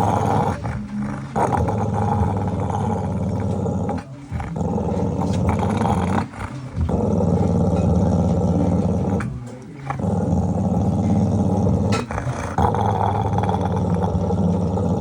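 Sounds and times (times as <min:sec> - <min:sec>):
dog growling deeply: 0:00.0 - 0:15.0.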